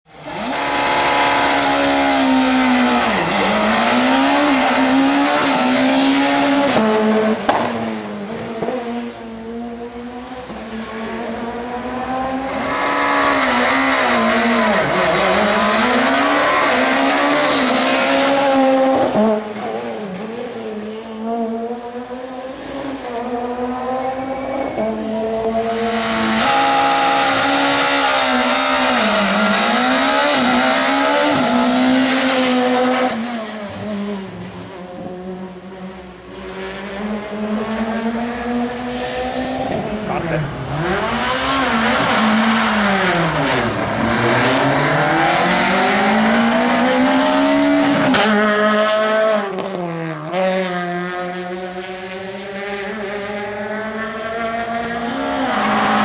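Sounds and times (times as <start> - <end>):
rally car engines revving: 0.1 - 56.0.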